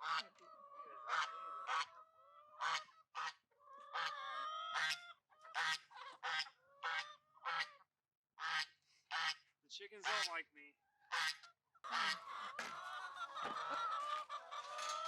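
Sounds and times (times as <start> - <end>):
chickens squawking: 0.0 - 7.8, 8.4 - 9.4, 10.0 - 10.3, 11.0 - 15.0.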